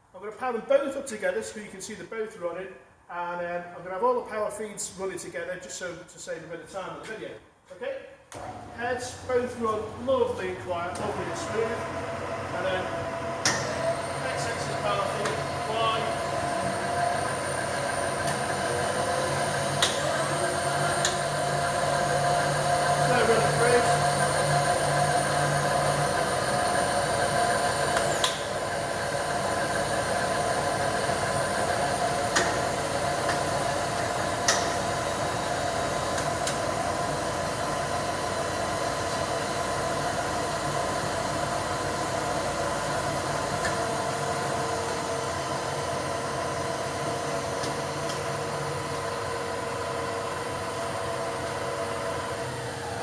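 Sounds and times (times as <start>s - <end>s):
milling machines whining: 8.4s - 53.0s.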